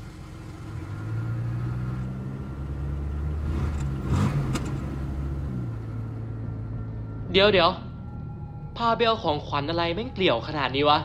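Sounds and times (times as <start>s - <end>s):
car engine running: 0.0s - 9.6s.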